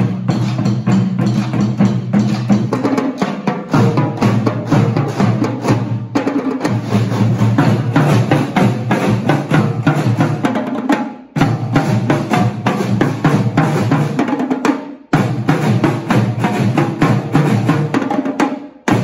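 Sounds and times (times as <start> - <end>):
drumline playing samba groove: 0.0 - 19.0.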